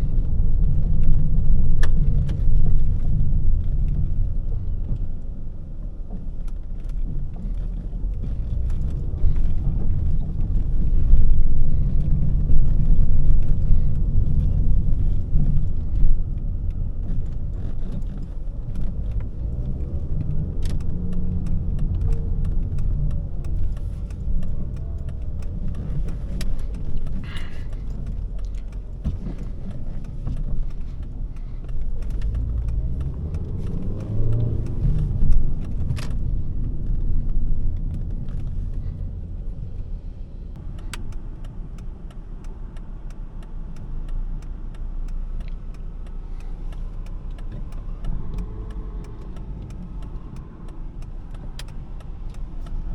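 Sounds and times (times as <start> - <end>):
car engine while driving: 0.0 - 52.9
light clicks and knocks: 0.2 - 39.6, 40.5 - 52.9.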